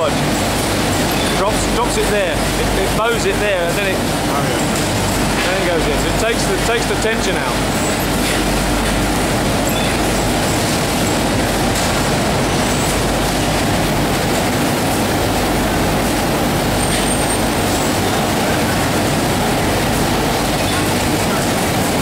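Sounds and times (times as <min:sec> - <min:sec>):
laundry machinery rushing and humming: 0:00.0 - 0:22.0.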